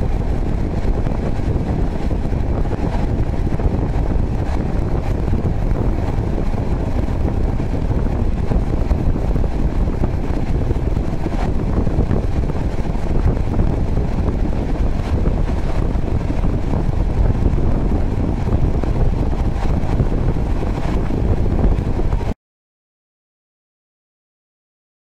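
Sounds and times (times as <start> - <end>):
train rumbling: 0.0 - 22.4
wind buffeting microphone: 0.0 - 22.4.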